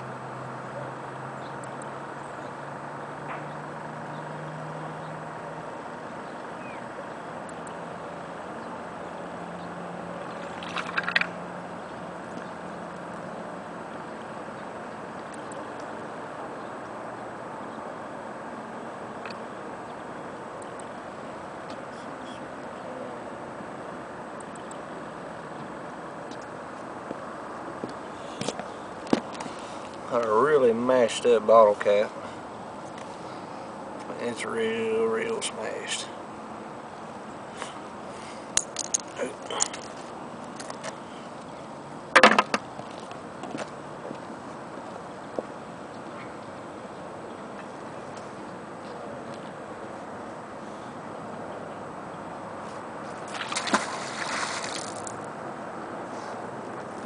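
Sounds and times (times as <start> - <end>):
outdoor background roar: 0.0 - 57.0.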